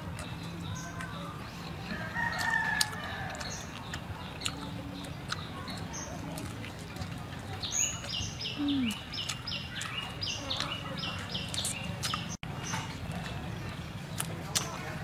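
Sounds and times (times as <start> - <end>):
soft chewing clicks: 0.0 - 15.0.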